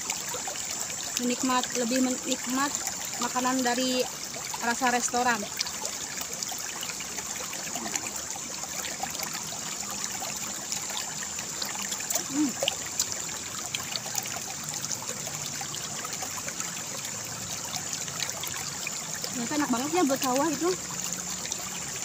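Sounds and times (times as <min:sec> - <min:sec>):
water flowing in channel: 0:00.0 - 0:22.0.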